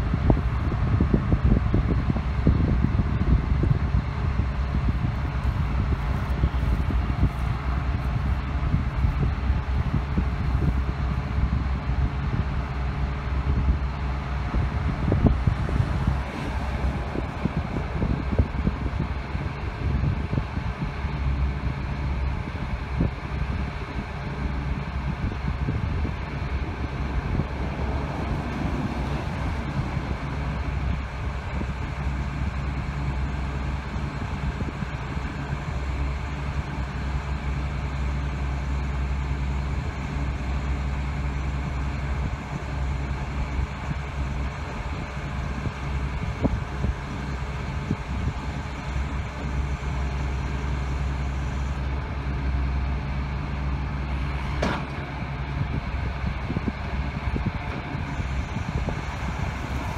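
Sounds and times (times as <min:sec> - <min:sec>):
crusher engine running: 0:00.0 - 0:59.9.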